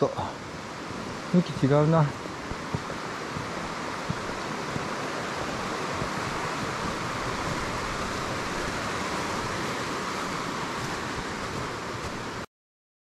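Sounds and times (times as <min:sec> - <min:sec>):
mountain stream rushing: 0:00.0 - 0:12.5.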